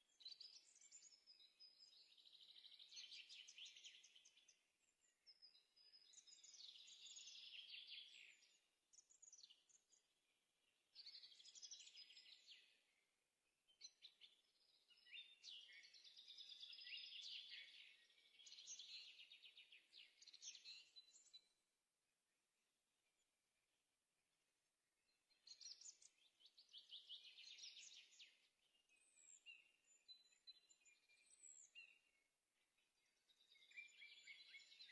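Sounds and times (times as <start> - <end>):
faint bird trilling song: 0.0 - 21.6, 25.1 - 34.9.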